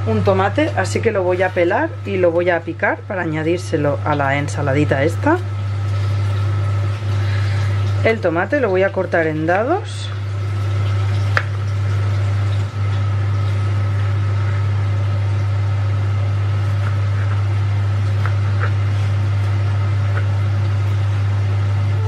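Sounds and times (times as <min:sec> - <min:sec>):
low kitchen hum: 0:00.0 - 0:22.0.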